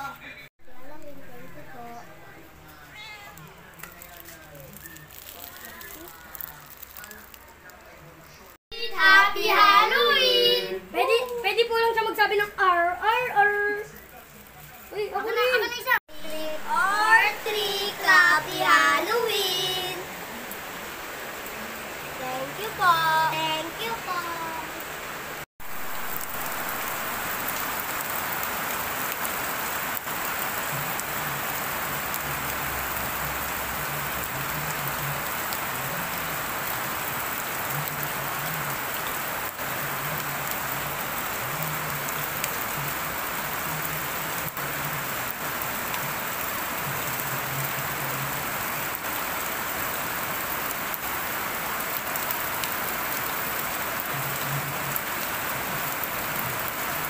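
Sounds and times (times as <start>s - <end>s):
rain on concrete: 0.0s - 57.0s.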